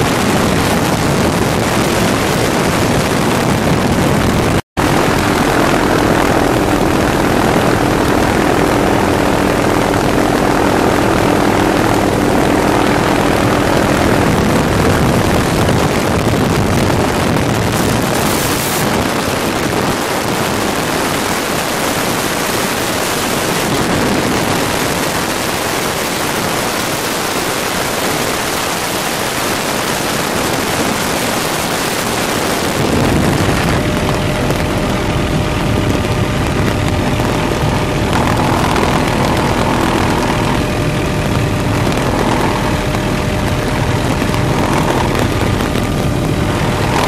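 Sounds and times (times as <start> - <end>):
helicopter rotor and engine drone: 0.0 - 47.0
wind rushing: 0.0 - 47.0.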